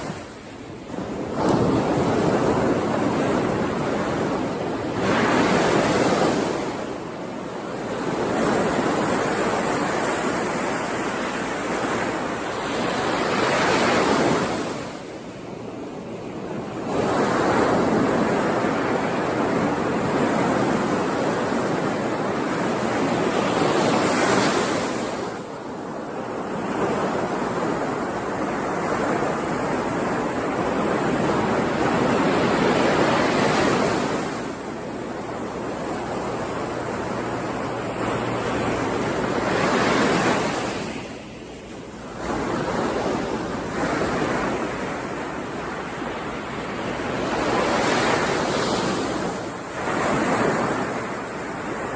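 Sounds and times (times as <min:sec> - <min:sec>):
waves breaking: 0:00.0 - 0:51.9.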